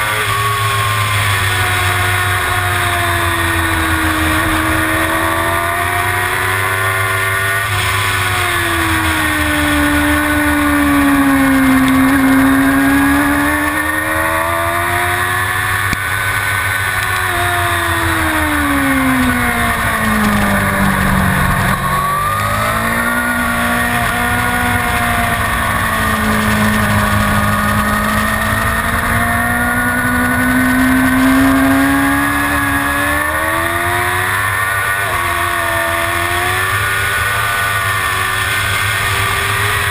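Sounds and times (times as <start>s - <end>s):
motorcycle engine at racing revs: 0.0s - 39.9s.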